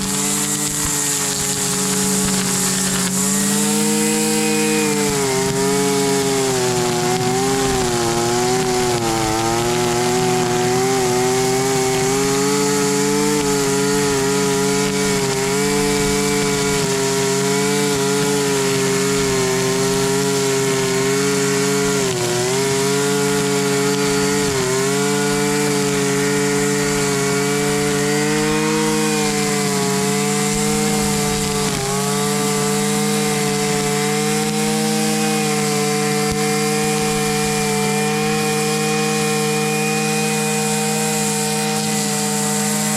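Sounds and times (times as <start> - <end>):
string trimmer engine running: 0.0 - 42.9.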